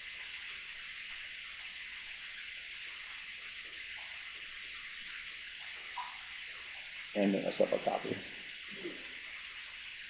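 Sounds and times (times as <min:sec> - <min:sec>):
room and microphone hiss: 0:00.0 - 0:10.0.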